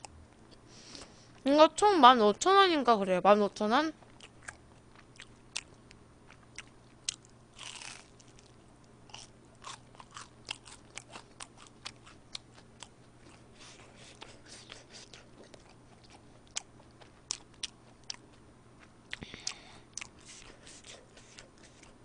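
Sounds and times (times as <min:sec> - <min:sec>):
crunchy food being chewed: 0:04.0 - 0:22.0.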